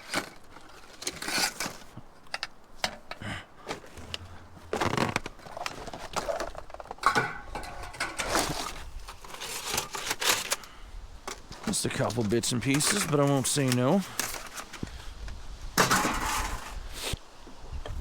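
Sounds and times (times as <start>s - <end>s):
plastic and wire crinkling: 0.0s - 14.9s.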